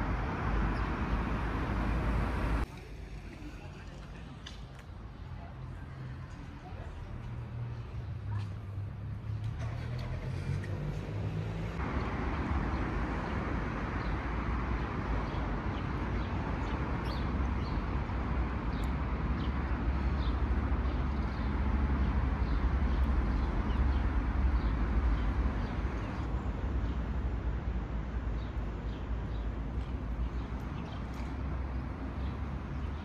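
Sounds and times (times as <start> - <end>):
street traffic: 0.0 - 33.0.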